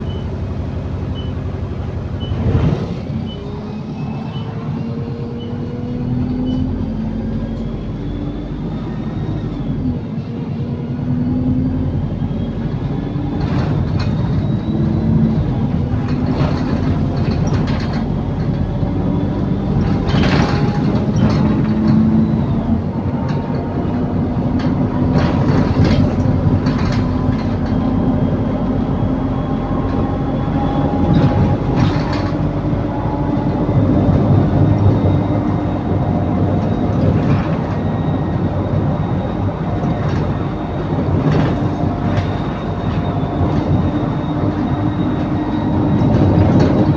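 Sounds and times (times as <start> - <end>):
bus engine drone: 0.0 - 46.9.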